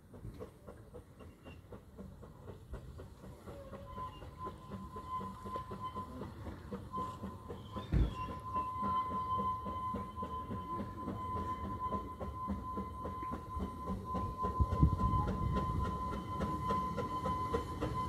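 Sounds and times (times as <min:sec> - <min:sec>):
train running gear knocking: 0:00.0 - 0:18.0.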